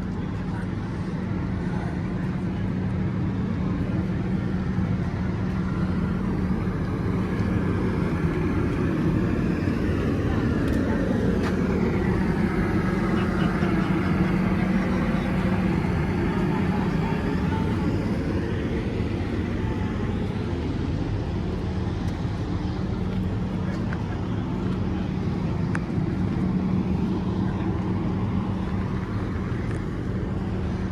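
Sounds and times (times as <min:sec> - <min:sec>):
large engine idling: 0:00.0 - 0:30.9.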